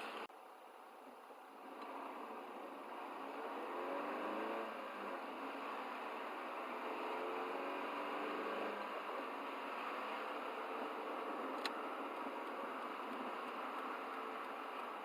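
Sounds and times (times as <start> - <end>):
tyre and engine hum: 0.0 - 15.0.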